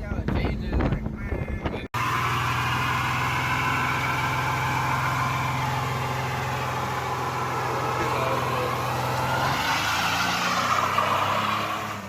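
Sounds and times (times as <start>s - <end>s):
car engine running: 2.0s - 12.0s.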